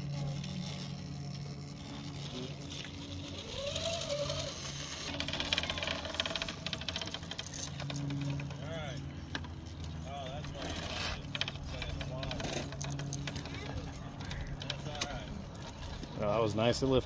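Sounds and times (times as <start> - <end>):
electric motors whining: 0.0 - 17.0
fast rattling clicking: 0.0 - 17.0.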